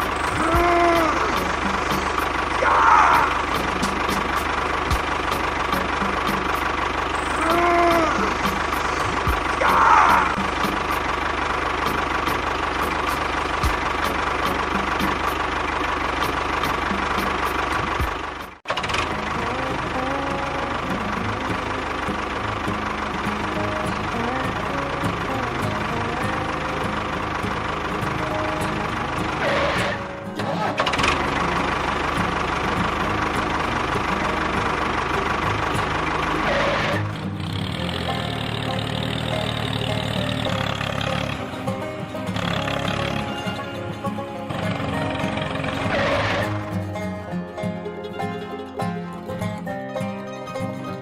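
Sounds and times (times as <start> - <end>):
engine running with regular knock: 0.0 - 46.9.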